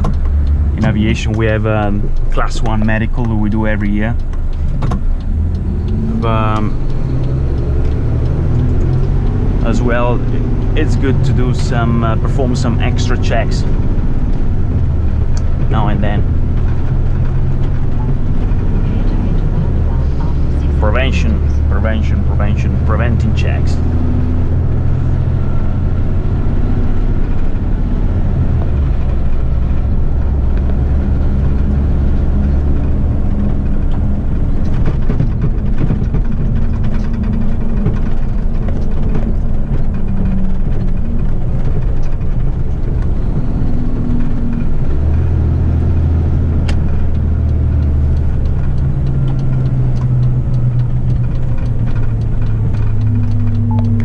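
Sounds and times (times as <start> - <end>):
road rumble: 0.0 - 54.0
truck diesel engine running: 0.0 - 54.0.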